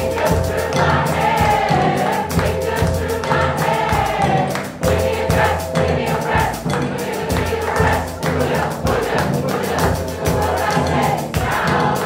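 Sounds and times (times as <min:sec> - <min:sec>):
drum and percussion beat: 0:00.0 - 0:12.0
large choir singing: 0:00.0 - 0:12.0.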